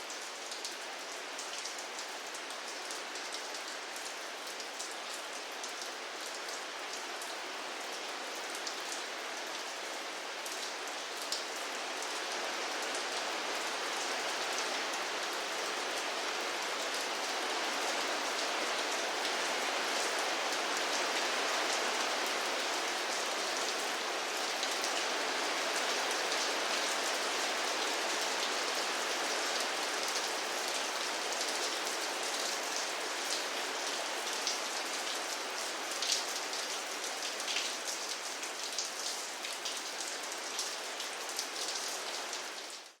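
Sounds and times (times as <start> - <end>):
steady rainfall: 0.0 - 43.0.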